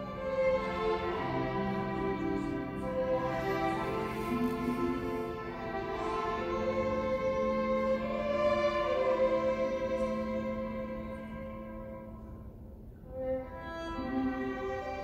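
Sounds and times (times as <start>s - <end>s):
string orchestra holding chords: 0.0s - 15.0s.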